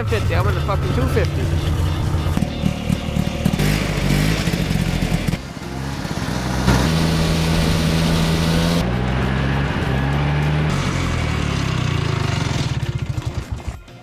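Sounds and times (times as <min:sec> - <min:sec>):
snowmobile engines running: 0:00.0 - 0:13.8.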